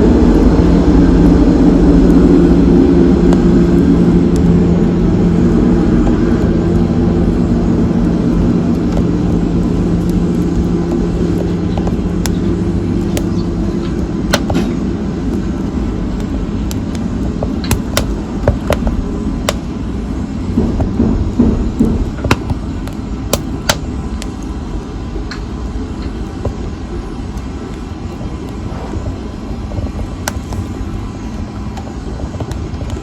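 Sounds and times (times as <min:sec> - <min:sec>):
fire crackles and pops: 0:00.0 - 0:33.0
flames rushing: 0:00.0 - 0:33.0.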